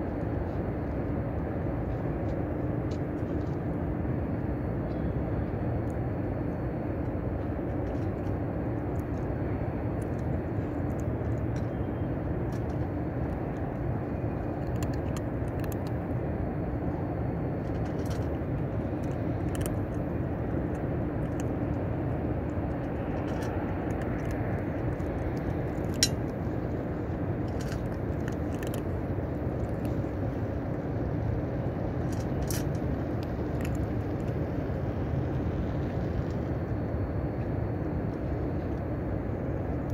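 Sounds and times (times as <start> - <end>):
cats crunching dried fish: 0.0 - 39.9
low rumble of city traffic: 0.0 - 39.9.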